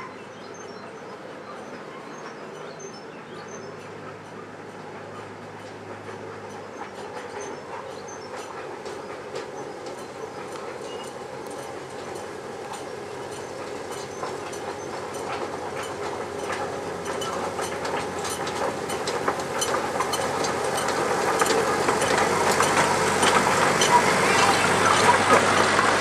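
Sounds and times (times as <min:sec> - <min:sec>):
miniature train passing: 0:00.0 - 0:26.0
wheels clicking on track: 0:00.0 - 0:26.0.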